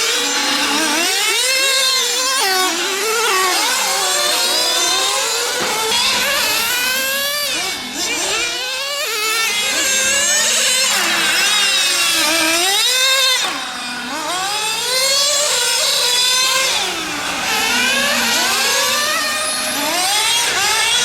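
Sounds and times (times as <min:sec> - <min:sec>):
small model car engines revving: 0:00.0 - 0:21.0.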